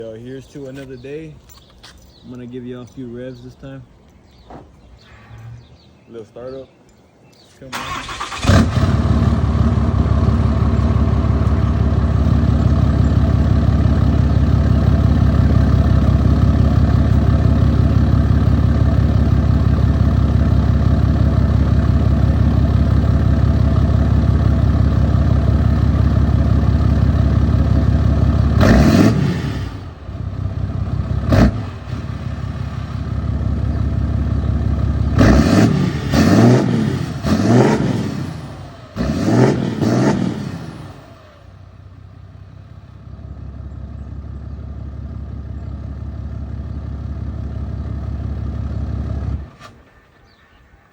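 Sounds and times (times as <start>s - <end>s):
diesel engine idling and revving: 7.6s - 50.9s.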